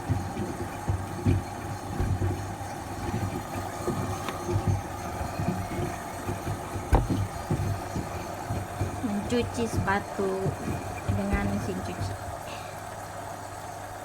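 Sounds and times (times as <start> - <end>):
shoes thudding in drum: 0.0 - 12.7
washing machine humming: 0.0 - 14.0.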